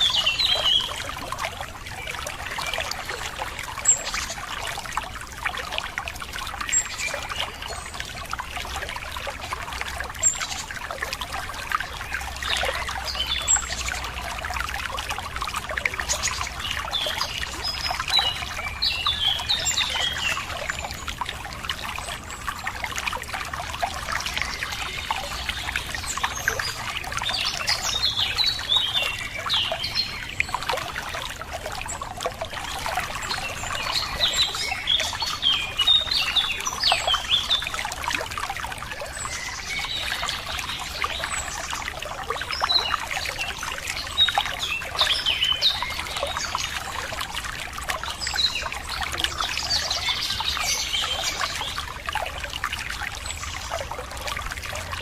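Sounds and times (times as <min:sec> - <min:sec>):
water trickling and splashing: 0:00.0 - 0:55.0
small birds chirping: 0:06.4 - 0:38.1, 0:38.7 - 0:55.0.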